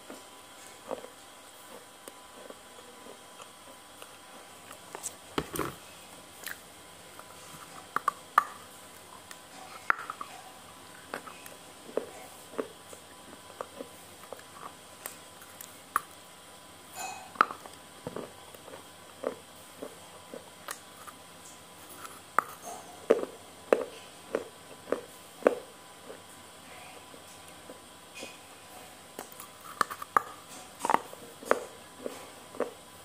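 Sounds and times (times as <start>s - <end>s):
person chewing noodles: 0.0s - 16.3s, 17.3s - 26.4s, 28.7s - 33.0s.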